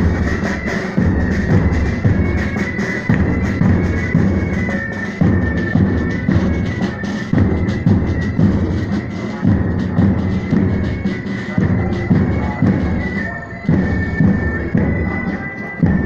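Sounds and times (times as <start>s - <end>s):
heavy drum beat: 0.0s - 16.0s
military band playing a march: 0.0s - 16.0s.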